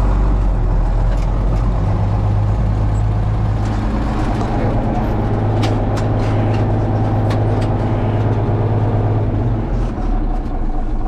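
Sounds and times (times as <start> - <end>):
tractor diesel engine: 0.0 - 11.0.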